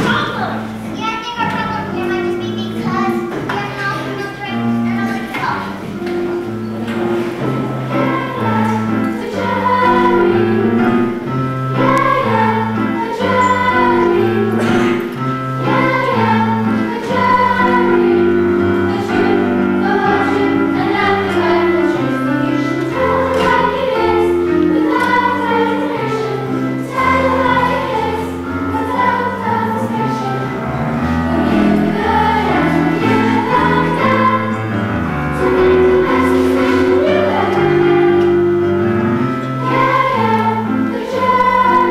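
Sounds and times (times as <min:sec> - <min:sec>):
instrumental accompaniment: 0:00.0 - 0:41.9
choir singing: 0:05.9 - 0:41.9.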